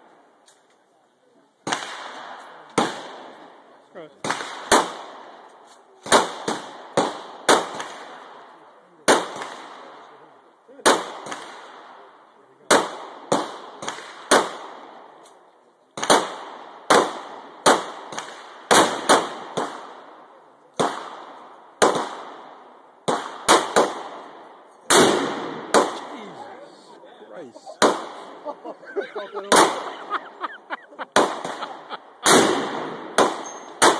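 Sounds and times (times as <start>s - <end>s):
rifle shots echoing: 1.6s - 3.6s, 4.2s - 10.2s, 10.8s - 15.2s, 16.0s - 26.4s, 27.8s - 28.7s, 29.5s - 33.9s.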